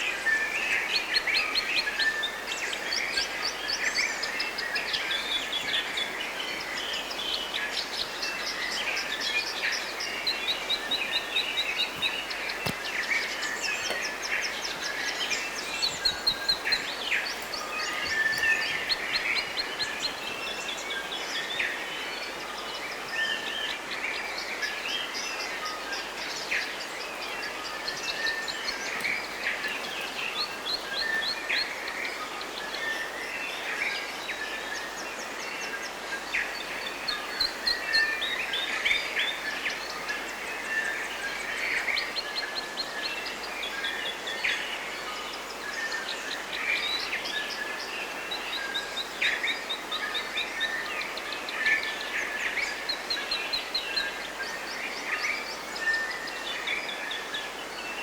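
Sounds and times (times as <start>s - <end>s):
forest birds singing: 0.0s - 58.0s.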